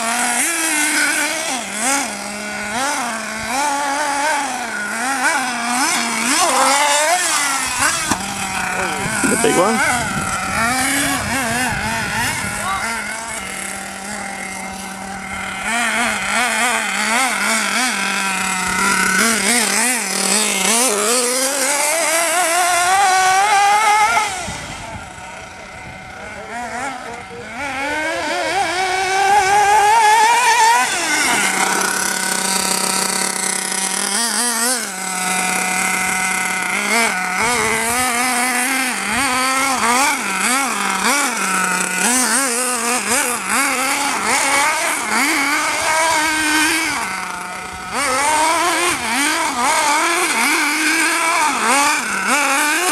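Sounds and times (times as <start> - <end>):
small engine revving and idling: 0.0 - 52.9.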